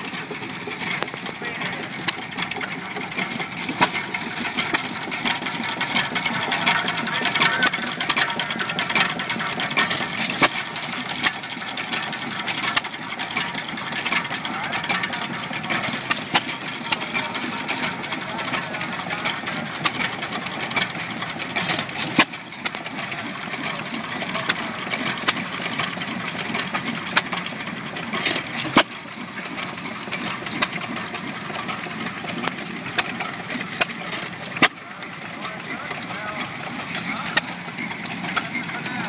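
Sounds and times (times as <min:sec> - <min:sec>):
engine clicks and knocks: 0:00.0 - 0:39.0.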